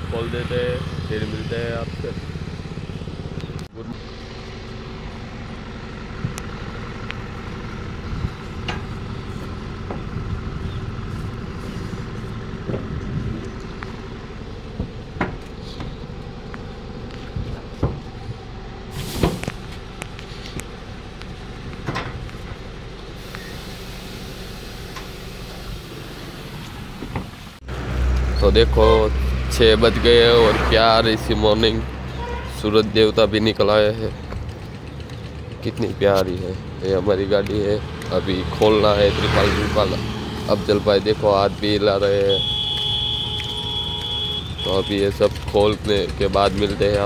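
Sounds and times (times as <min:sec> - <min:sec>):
diesel truck engine idling: 0:00.0 - 0:47.0.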